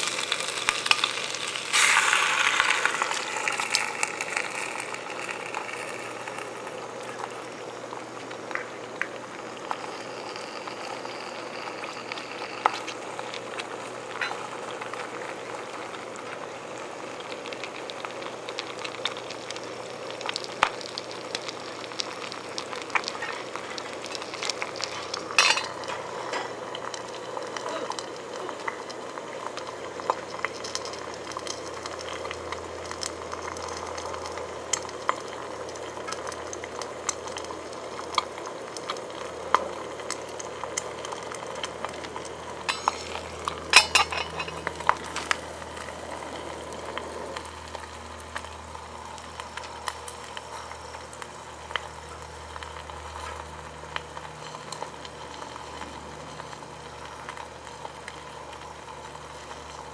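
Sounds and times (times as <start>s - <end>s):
bacon and egg sizzling: 0.0s - 59.9s.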